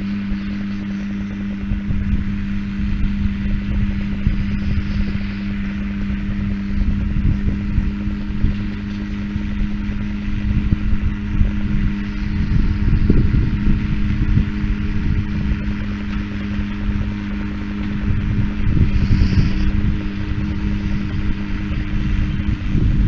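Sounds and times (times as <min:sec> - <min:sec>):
tractor engine drone: 0:00.0 - 0:23.0.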